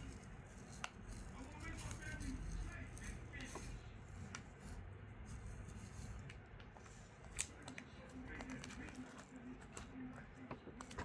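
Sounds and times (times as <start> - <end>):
slime squishing: 0.0 - 11.0.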